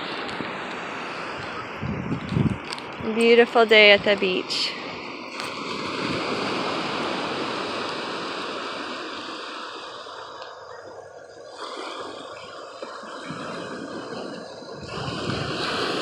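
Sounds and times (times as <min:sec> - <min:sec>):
waves washing onto sandy beach: 0:00.0 - 0:16.0.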